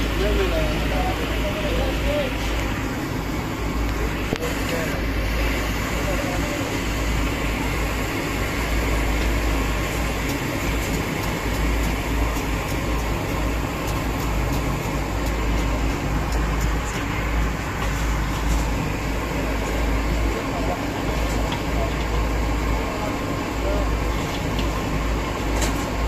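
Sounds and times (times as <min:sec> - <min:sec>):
background rumble and hiss: 0:00.0 - 0:26.0.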